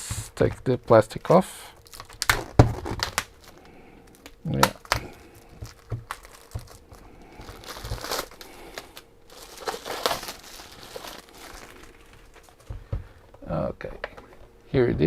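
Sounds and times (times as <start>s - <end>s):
plastic wrapping crinkling: 0.4s - 13.4s.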